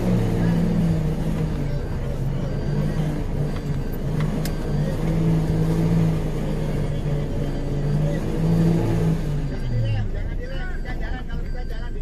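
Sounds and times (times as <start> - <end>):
vehicle engine revving: 0.0 - 11.5.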